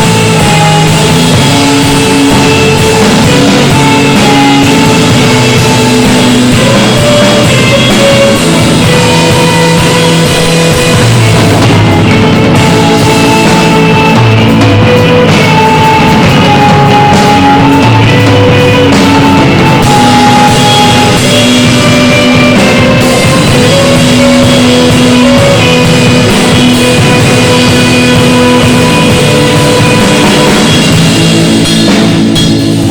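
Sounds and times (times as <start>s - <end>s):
rock band playing a hymn: 0.0s - 32.9s.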